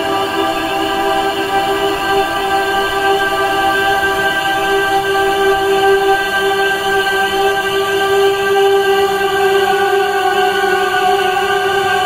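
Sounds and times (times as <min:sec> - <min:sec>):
ambient music drone: 0:00.0 - 0:12.0.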